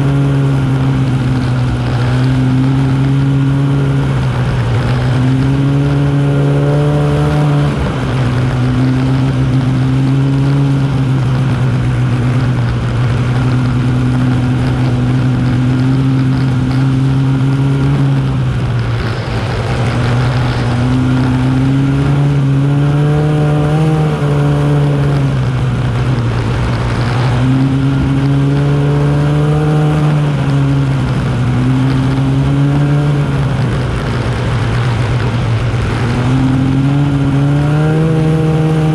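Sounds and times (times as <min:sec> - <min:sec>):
snowmobile engine: 0:00.0 - 0:38.9.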